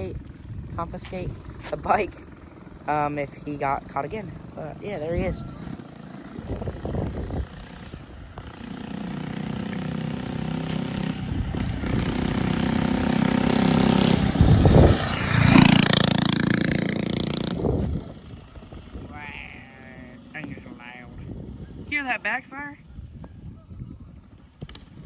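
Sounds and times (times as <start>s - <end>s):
mini bike engine running: 0.0s - 22.0s.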